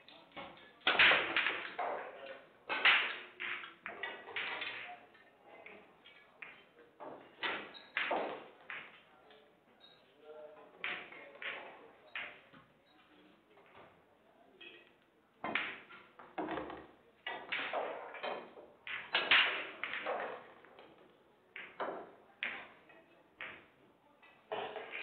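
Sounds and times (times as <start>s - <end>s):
pool balls clicking in echoing hall: 0.0s - 25.0s.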